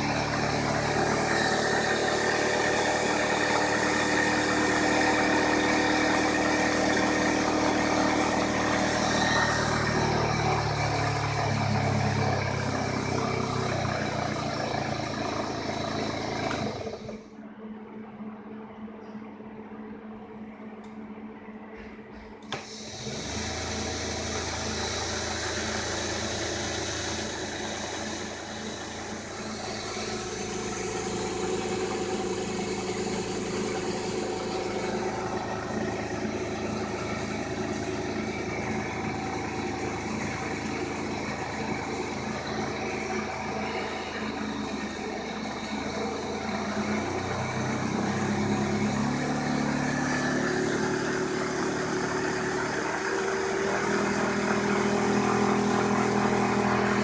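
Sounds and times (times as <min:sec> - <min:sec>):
electric motor running: 0:00.0 - 0:17.3, 0:22.7 - 0:57.0.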